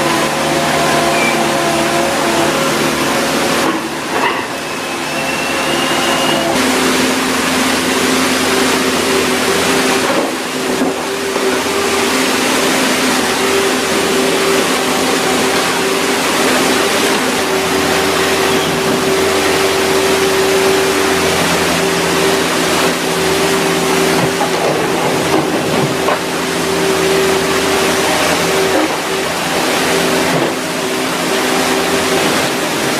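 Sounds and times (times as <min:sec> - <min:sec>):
heavy machine engine humming: 0:00.0 - 0:32.9.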